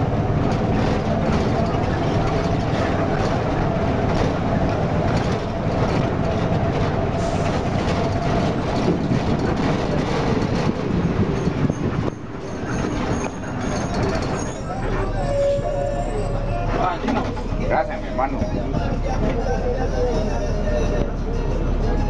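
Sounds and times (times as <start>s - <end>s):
bus body rattling: 0.0s - 22.0s
bus diesel engine rumbling: 0.0s - 22.0s.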